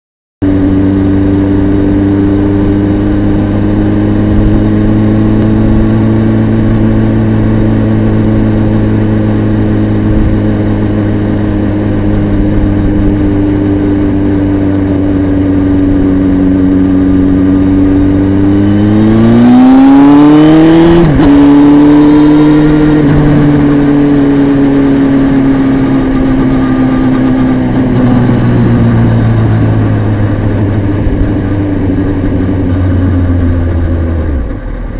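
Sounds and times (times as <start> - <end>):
motorcycle engine revving: 0.4 - 34.9.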